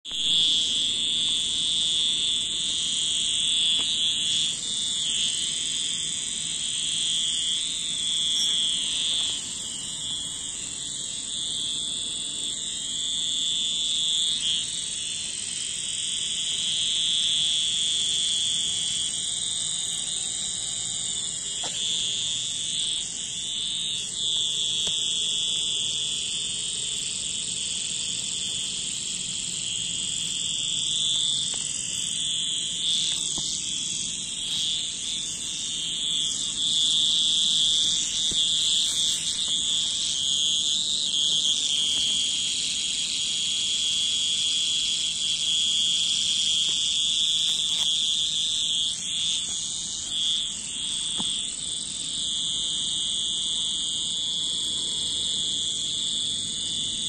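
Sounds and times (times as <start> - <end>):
cicadas buzzing: 0.0 - 57.0.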